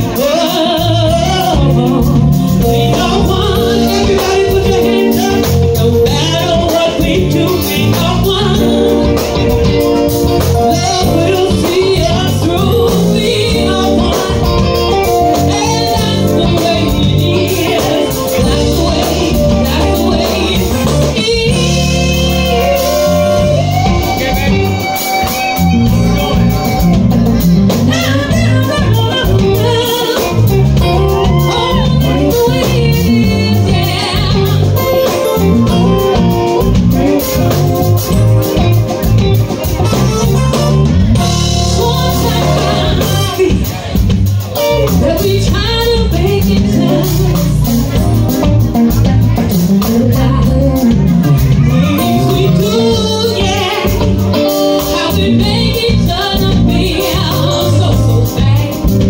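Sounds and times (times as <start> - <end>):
woman singing into a microphone: 0.0 - 26.9, 27.7 - 39.3, 41.2 - 59.0
live band playing: 0.0 - 59.0.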